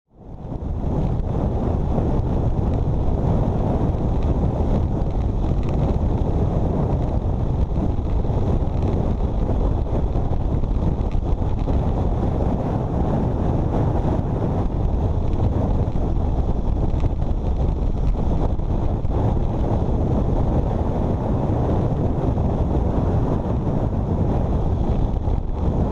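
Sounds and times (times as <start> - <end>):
wind buffeting microphone: 0.1 - 25.9.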